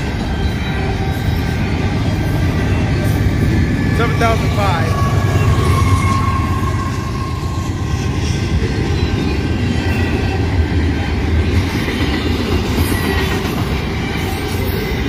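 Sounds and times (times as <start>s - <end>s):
crossing bell ringing: 0.0s - 15.0s
diesel locomotive rumbling: 0.0s - 15.0s.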